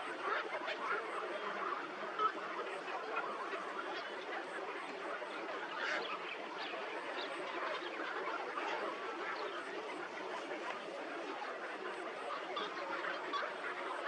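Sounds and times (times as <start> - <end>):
flock of birds chattering: 0.0 - 14.0.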